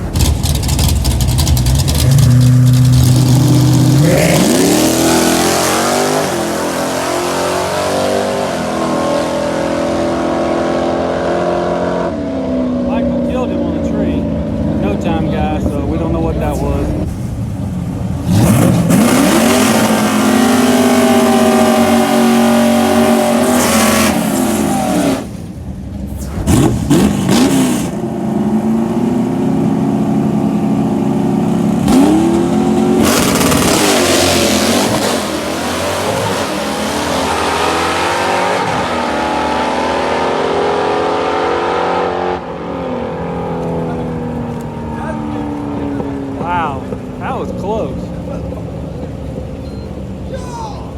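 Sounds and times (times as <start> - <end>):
racing car engines revving: 0.0 - 50.9.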